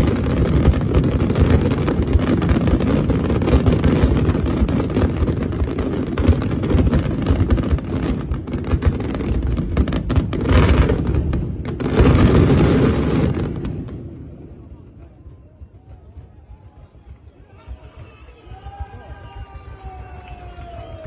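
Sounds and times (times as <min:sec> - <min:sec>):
fireworks bursts and bangs: 0:00.0 - 0:21.0.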